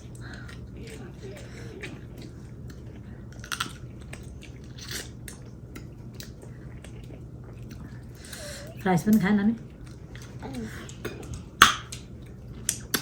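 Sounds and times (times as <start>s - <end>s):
chewing with wet squishes: 0.0s - 13.0s
food crunching: 0.0s - 13.0s.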